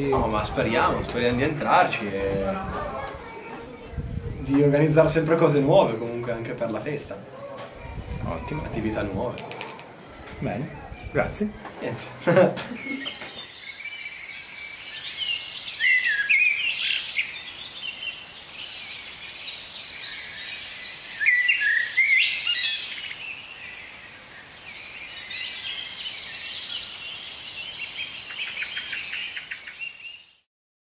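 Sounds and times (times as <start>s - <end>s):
birds chirping and singing: 0.0s - 30.4s.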